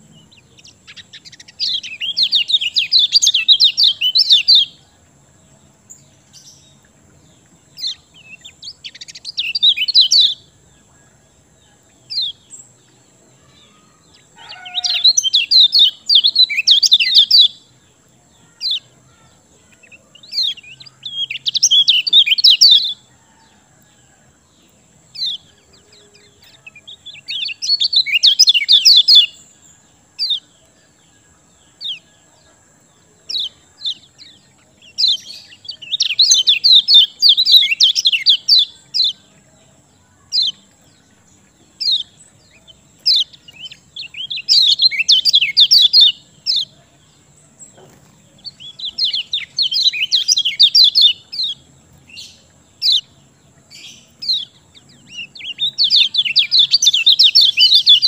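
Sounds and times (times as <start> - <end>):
bird rapid chattering song: 0.0 - 23.1, 24.9 - 31.0, 33.2 - 39.4, 40.1 - 58.0.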